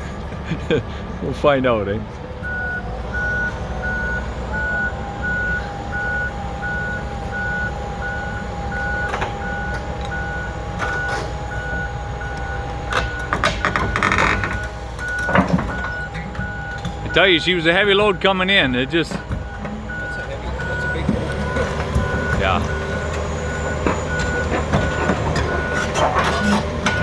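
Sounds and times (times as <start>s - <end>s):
diesel engine running: 0.0s - 27.0s
backup alarm beeping: 2.4s - 27.0s.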